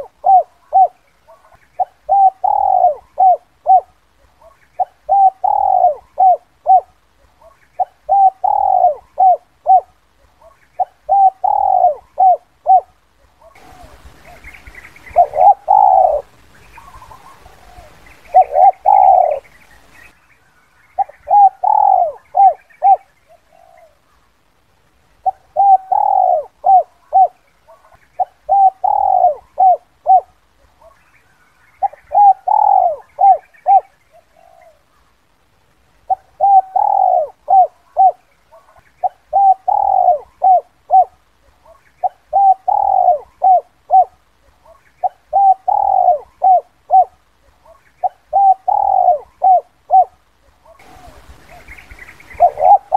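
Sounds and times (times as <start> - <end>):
dove cooing: 0.0 - 19.9, 21.0 - 24.2, 25.2 - 31.0, 31.8 - 35.1, 36.0 - 52.9.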